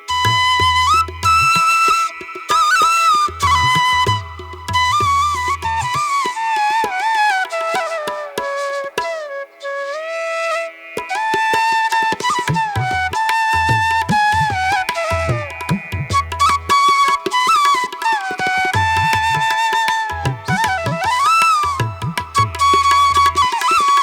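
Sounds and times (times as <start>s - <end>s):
flute-like melody: 0.0s - 24.0s.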